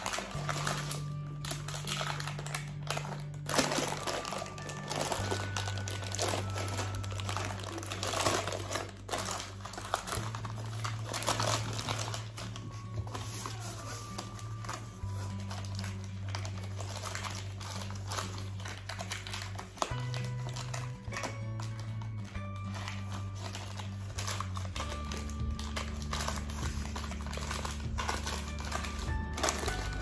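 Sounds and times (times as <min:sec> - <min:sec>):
background music with low notes: 0:00.0 - 0:30.0
parchment paper crinkling: 0:00.0 - 0:30.0.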